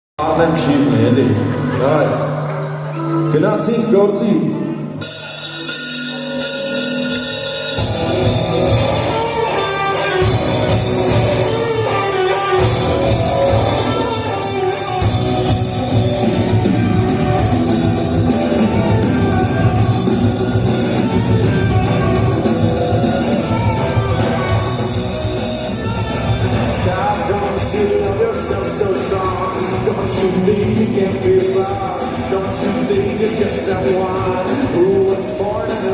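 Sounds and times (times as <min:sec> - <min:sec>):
live rock band playing: 0:04.5 - 0:35.9.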